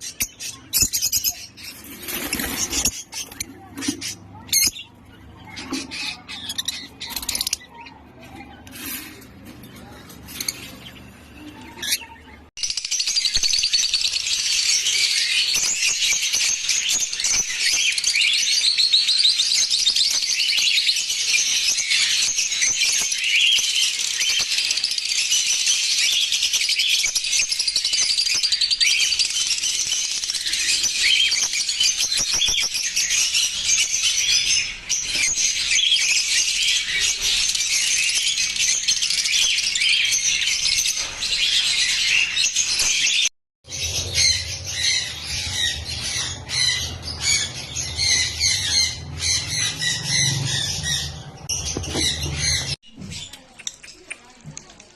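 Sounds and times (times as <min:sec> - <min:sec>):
lovebirds chirping: 0:00.0 - 0:54.9.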